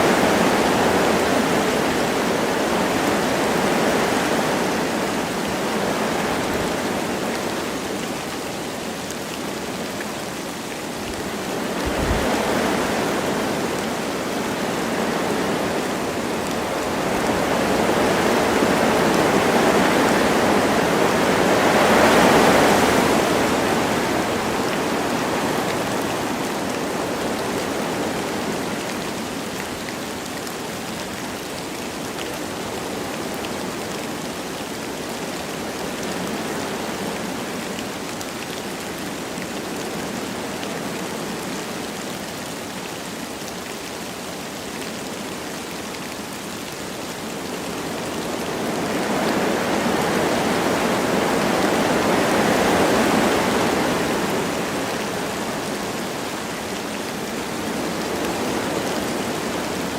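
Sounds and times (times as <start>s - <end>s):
light rain falling: 0.0s - 59.9s
wind through forest trees: 0.0s - 59.9s.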